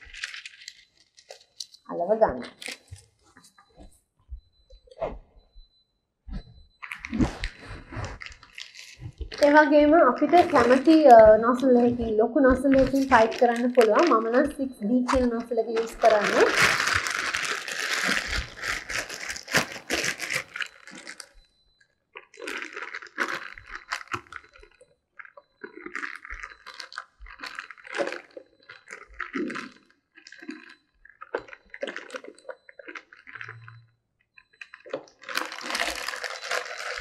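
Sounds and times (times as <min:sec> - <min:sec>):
plastic bag crinkling: 0:00.0 - 0:03.8, 0:06.8 - 0:21.6, 0:22.2 - 0:33.8, 0:34.6 - 0:37.0.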